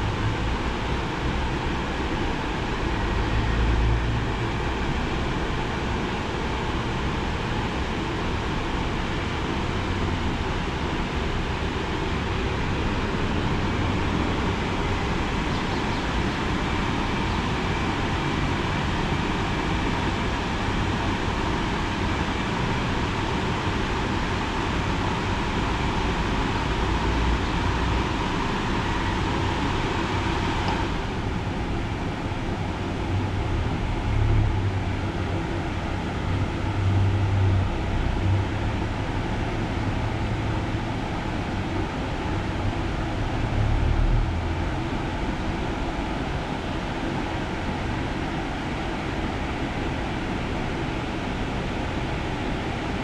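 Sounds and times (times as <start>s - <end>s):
car wash machinery rushing: 0.0s - 53.0s.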